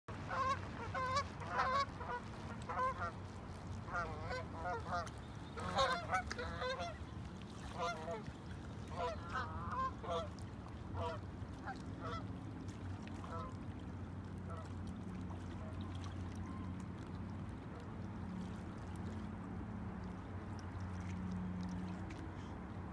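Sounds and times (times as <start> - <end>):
low background rumble: 0.1 - 22.9.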